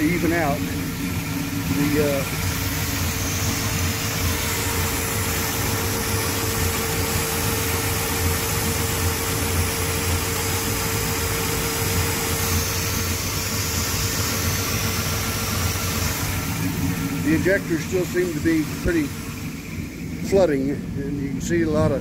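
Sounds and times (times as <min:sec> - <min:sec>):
truck engine idling with whine: 0:00.0 - 0:22.0.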